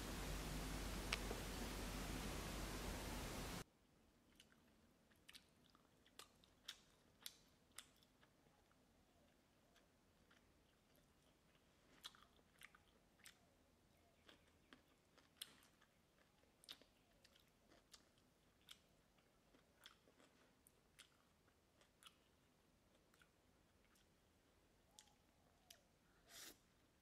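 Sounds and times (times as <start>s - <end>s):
quiet eating sounds: 0.0s - 27.0s.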